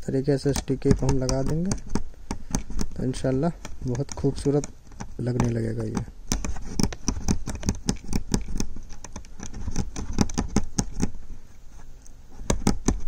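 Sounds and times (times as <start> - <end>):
needle piercing fabric clicks: 0.5 - 11.1.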